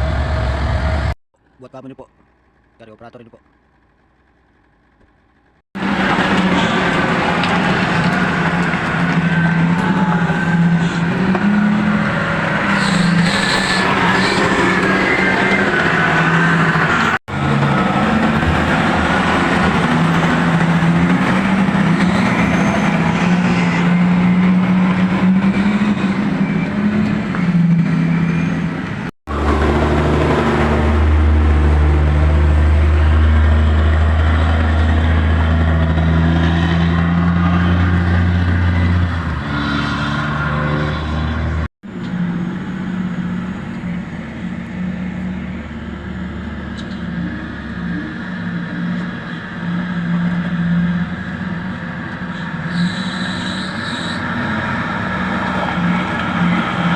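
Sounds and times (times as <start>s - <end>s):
heavy diesel engines running: 0.0s - 56.9s.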